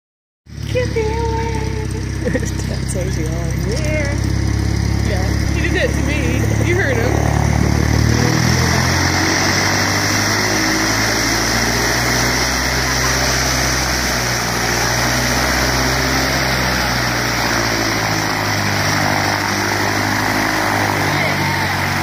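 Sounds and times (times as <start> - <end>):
propeller plane engine taxiing: 0.5 - 22.0.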